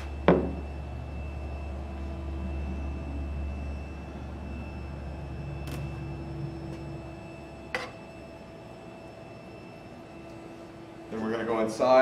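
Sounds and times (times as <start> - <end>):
low hum: 0.0 - 11.4
faint high whine: 0.0 - 12.0.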